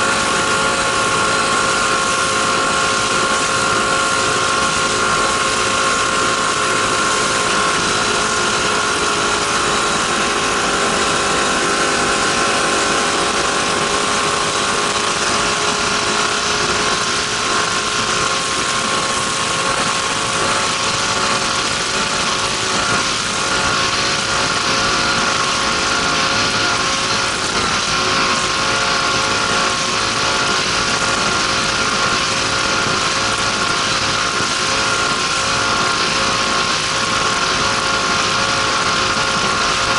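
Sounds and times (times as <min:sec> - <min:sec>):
powerboat engine droning: 0:00.0 - 0:39.9
rush of wind and water: 0:00.0 - 0:39.9.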